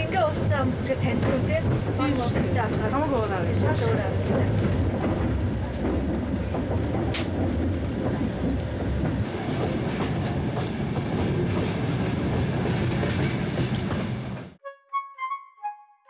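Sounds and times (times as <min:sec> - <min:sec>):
train wheels rumbling on rails: 0:00.0 - 0:14.6.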